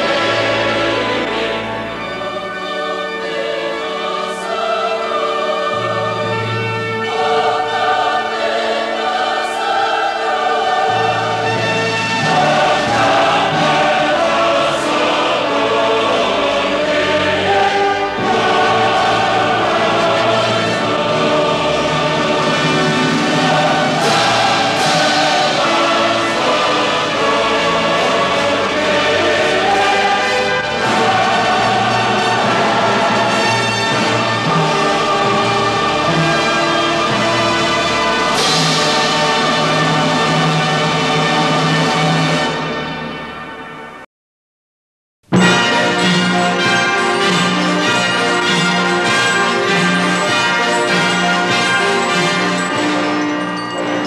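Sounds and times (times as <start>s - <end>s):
choir singing: 0.0s - 43.2s, 45.4s - 54.0s
instrumental accompaniment: 0.0s - 44.0s, 45.2s - 54.0s.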